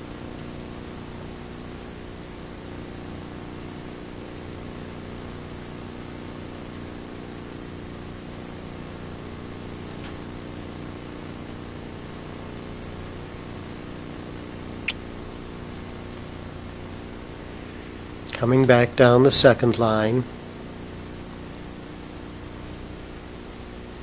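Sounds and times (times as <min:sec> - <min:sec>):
low background hum with hiss: 0:00.0 - 0:24.0.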